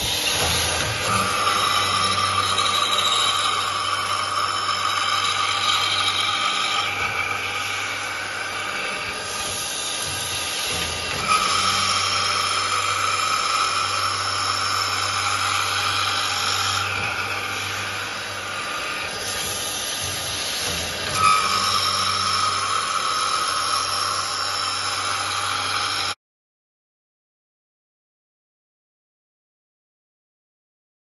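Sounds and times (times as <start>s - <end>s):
drilling machine motor hum: 0.0s - 26.2s.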